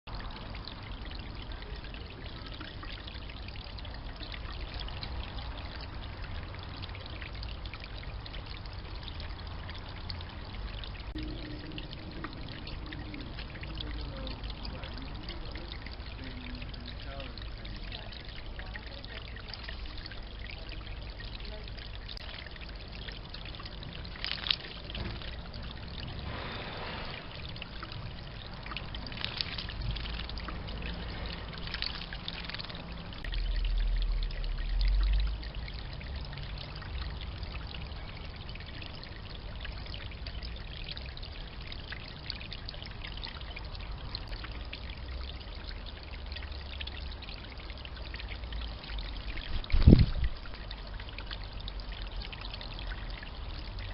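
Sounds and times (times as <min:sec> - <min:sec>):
water trickling: 0:00.0 - 0:53.9
water splashes: 0:00.1 - 0:53.9.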